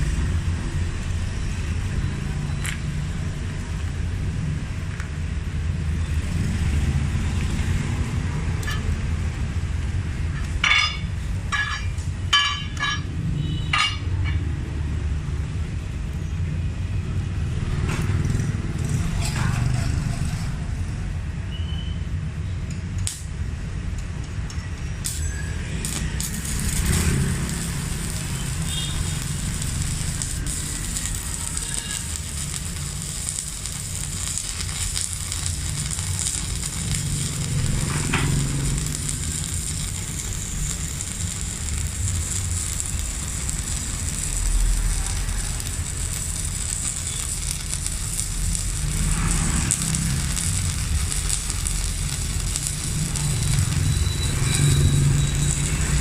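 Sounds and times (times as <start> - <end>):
welding arc crackling: 0.0 - 16.2, 17.4 - 21.0, 22.1 - 56.0.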